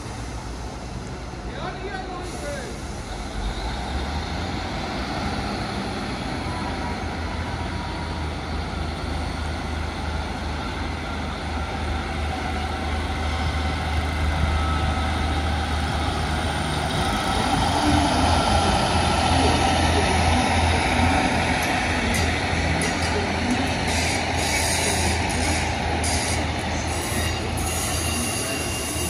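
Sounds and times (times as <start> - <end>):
diesel train engine humming: 0.0 - 29.0.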